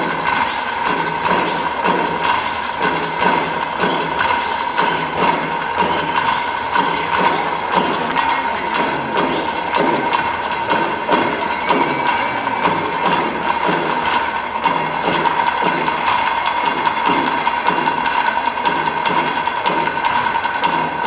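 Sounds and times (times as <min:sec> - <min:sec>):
drum troupe playing rhythm: 0:00.0 - 0:21.0.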